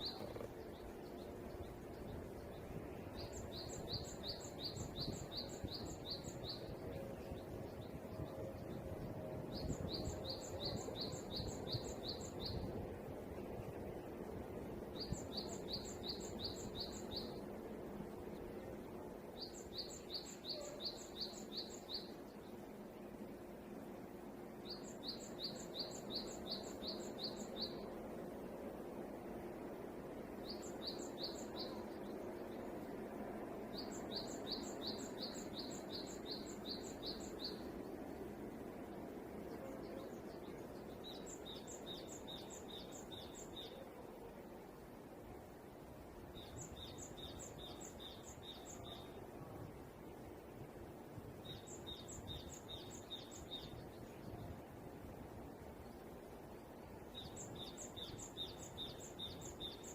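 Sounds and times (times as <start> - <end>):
low background noise: 0.0 - 59.9
songbird singing: 0.0 - 59.9.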